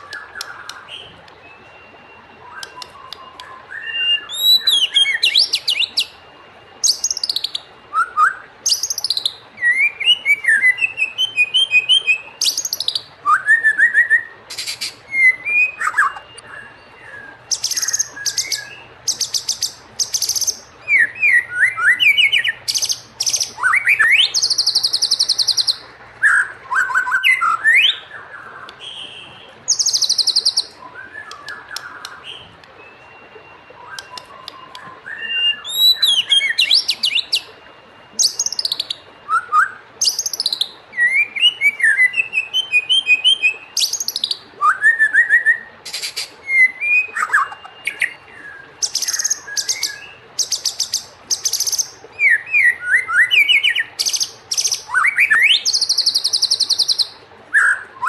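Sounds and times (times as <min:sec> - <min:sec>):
bird whistling song: 0:00.0 - 0:58.0.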